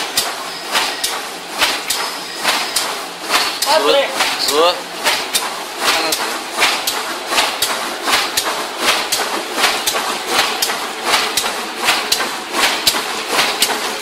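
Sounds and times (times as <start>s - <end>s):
machine rhythmic clatter: 0.0s - 14.0s.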